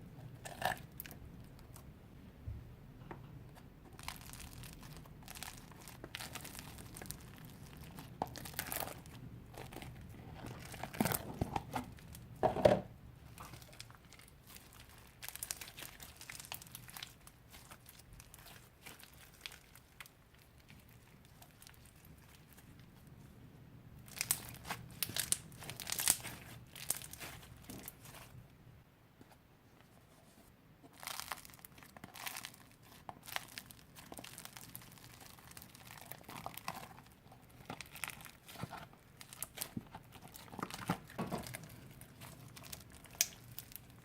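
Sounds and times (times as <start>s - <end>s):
slime crackling and squelching: 3.8s - 12.4s, 13.2s - 23.2s, 24.0s - 28.4s, 30.9s - 44.0s.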